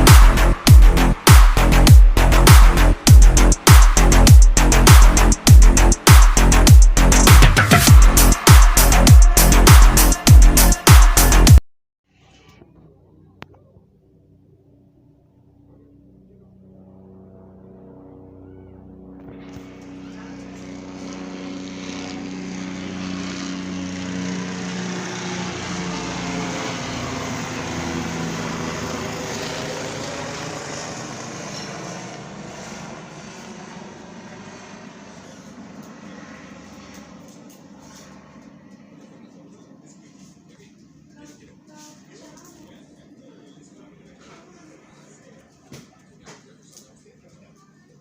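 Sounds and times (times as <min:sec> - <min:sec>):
helicopter flying past: 0:00.0 - 0:11.6, 0:12.6 - 0:48.0.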